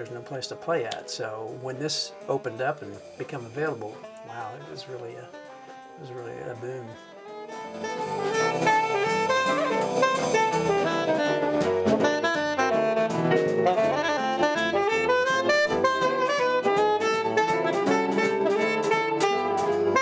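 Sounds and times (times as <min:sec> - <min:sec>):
drum kit steady beat: 0:00.0 - 0:06.9, 0:07.5 - 0:20.0
small jazz band playing: 0:00.0 - 0:20.0
saxophone melody: 0:00.8 - 0:20.0.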